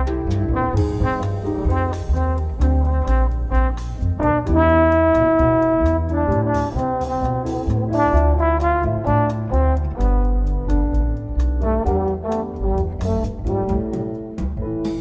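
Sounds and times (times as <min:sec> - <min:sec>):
bass line: 0:00.0 - 0:15.0
brass melody: 0:00.0 - 0:15.0
steady drum beat: 0:00.0 - 0:15.0.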